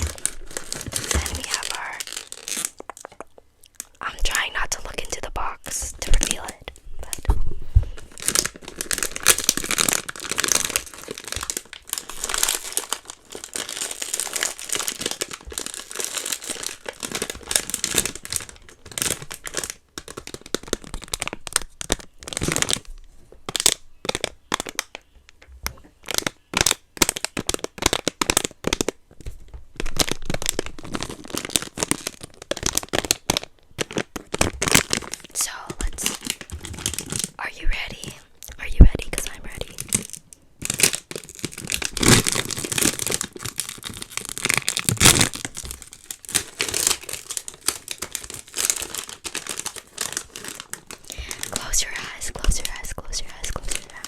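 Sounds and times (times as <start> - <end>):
packaging crinkling and rustling: 0.0 - 54.0.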